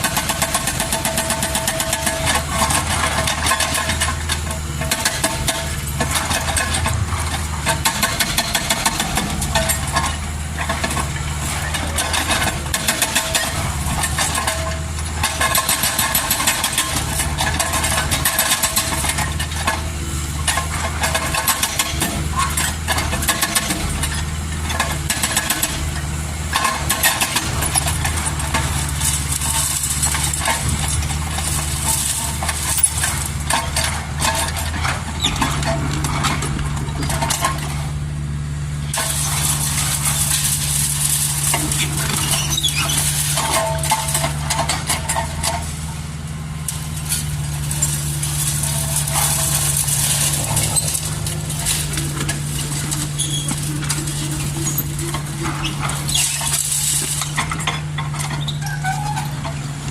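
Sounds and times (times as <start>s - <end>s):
excavator diesel engine clattering: 0.0s - 59.9s.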